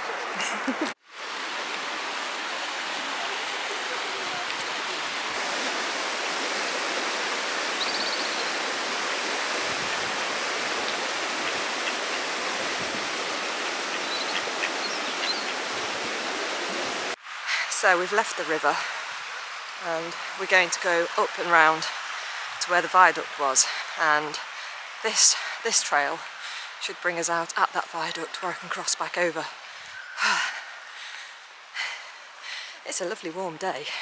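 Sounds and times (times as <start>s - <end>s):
river flowing: 0.0s - 34.0s.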